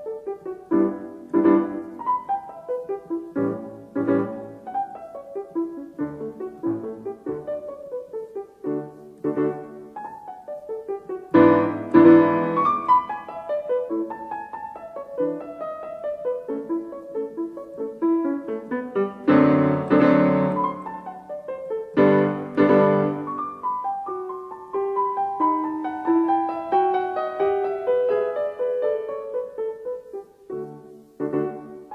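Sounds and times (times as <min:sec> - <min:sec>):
piano music: 0:00.0 - 0:31.9.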